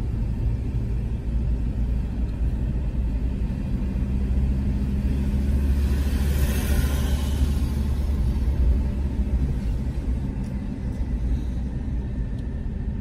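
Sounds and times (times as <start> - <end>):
car driving engine and tyre noise: 0.0 - 13.0.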